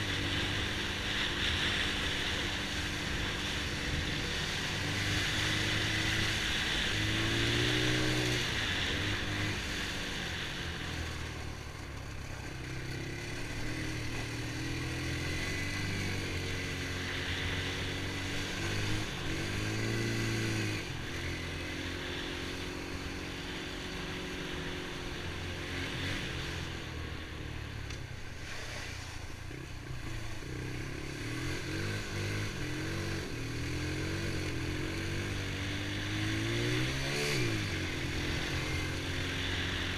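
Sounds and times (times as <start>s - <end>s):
small four-stroke engine revving: 0.0s - 39.9s.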